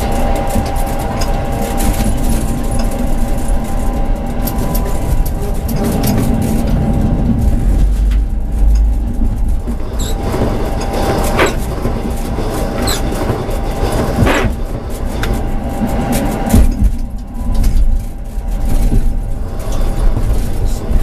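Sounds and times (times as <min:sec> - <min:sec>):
tram rumbling along track: 0:00.0 - 0:21.0
wheels knocking on rails: 0:00.0 - 0:21.0.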